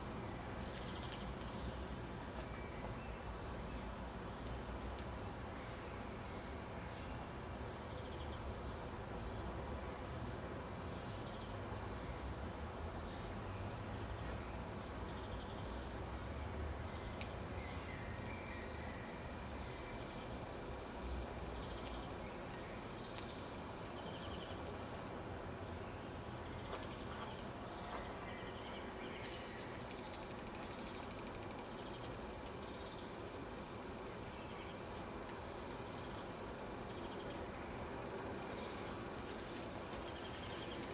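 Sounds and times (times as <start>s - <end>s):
insect chirping: 0.0s - 40.9s
low rumble and hiss: 0.0s - 40.9s.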